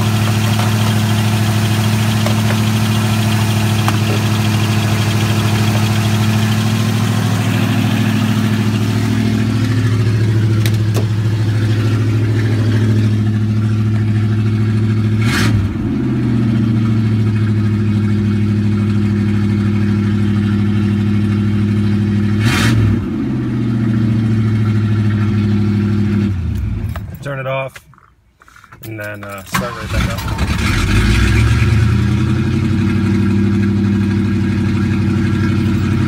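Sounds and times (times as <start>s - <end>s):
loud car engine running: 0.0s - 27.2s, 29.5s - 36.0s.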